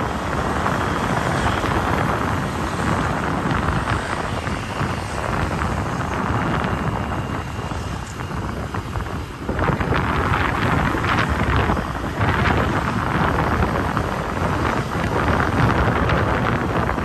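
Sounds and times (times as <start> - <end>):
vehicle and road noise: 0.0 - 17.0
wind buffeting microphone: 0.0 - 17.0.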